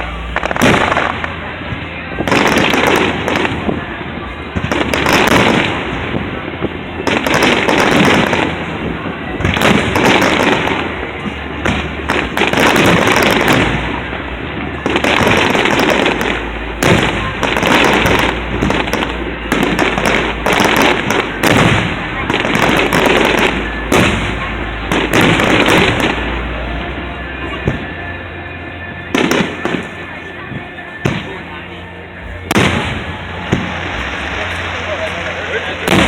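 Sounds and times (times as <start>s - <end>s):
fireworks bursting with crackling: 0.0s - 36.0s.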